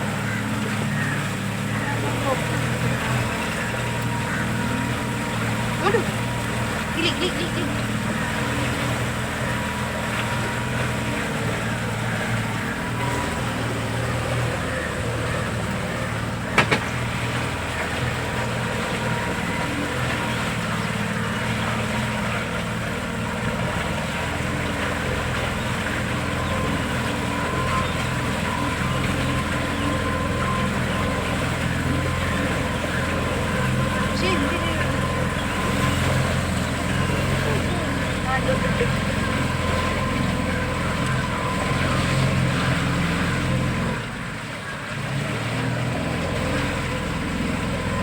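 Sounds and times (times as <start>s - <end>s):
boat motor running: 0.0s - 48.0s.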